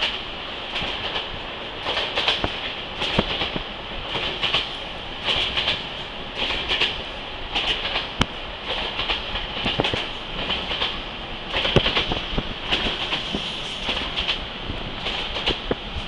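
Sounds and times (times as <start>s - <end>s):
train rushing hiss: 0.0s - 16.0s
wheels clacking over rail joints: 0.0s - 16.0s.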